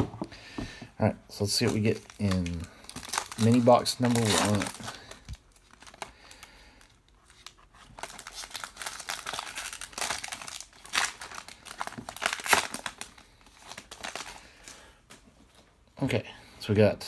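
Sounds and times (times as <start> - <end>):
plastic wrapper crinkling and tearing: 1.4 - 15.2.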